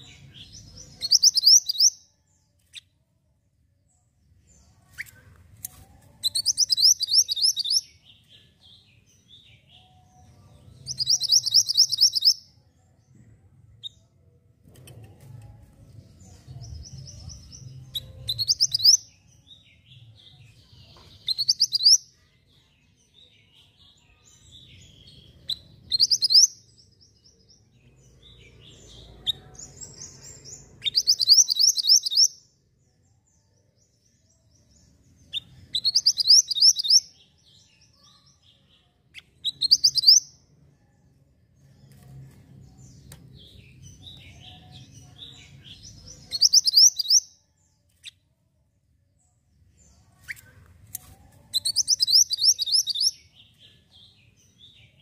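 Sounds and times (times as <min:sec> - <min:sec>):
bird singing high chirps: 0:00.0 - 0:03.0, 0:04.5 - 0:13.1, 0:16.0 - 0:41.0, 0:42.6 - 0:48.2, 0:51.3 - 0:55.0.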